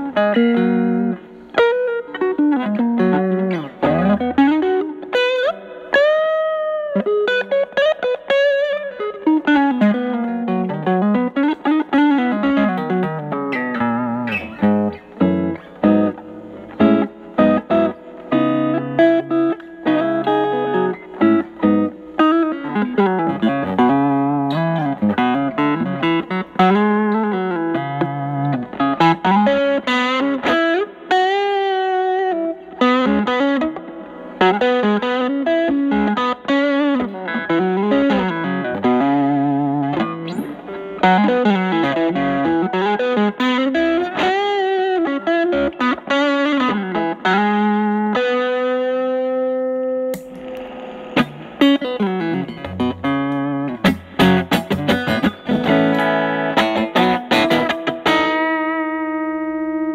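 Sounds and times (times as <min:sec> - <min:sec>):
overdriven electric guitar lead: 0:00.0 - 0:59.9.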